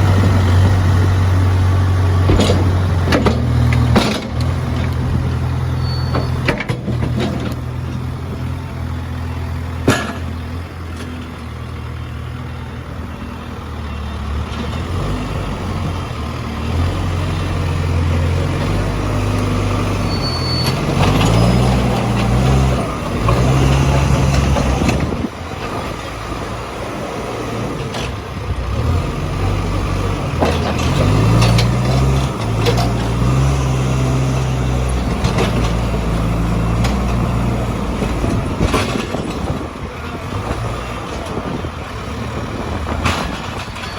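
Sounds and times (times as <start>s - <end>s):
diesel engine revving: 0.0s - 43.9s.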